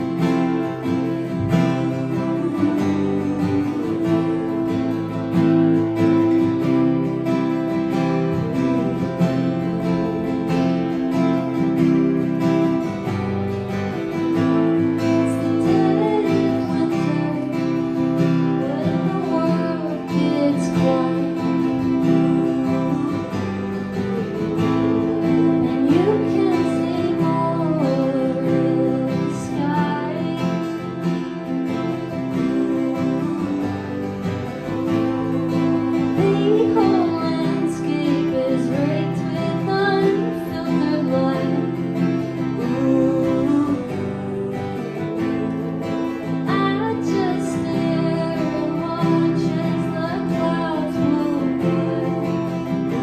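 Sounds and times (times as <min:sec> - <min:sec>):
acoustic guitar strumming: 0:00.0 - 0:53.0
woman singing: 0:00.0 - 0:53.0.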